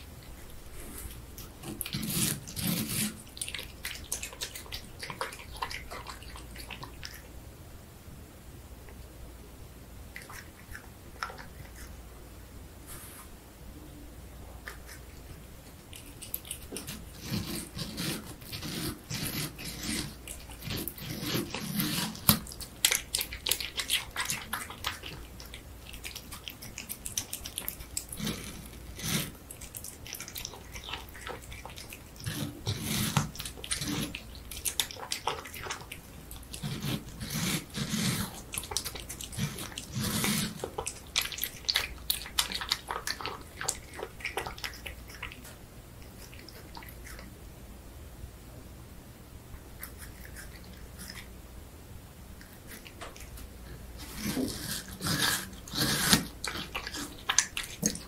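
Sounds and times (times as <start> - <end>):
cat chewing and smacking: 0.0 - 7.4, 10.1 - 12.2, 14.5 - 47.4, 49.7 - 51.4, 52.3 - 58.0.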